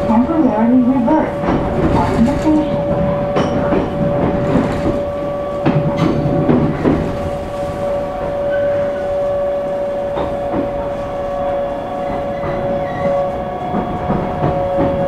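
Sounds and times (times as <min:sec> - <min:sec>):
wheels clacking over rail joints: 0:00.0 - 0:09.1, 0:12.0 - 0:15.0
train running gear rumble: 0:00.0 - 0:15.0.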